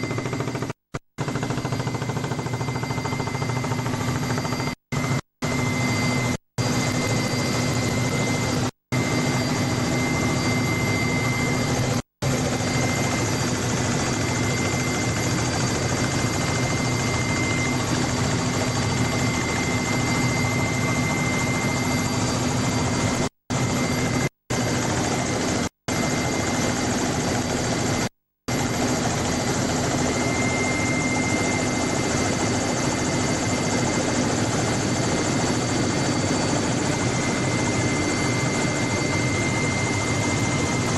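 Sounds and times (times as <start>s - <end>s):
helicopter drone and whine: 0.0s - 40.9s.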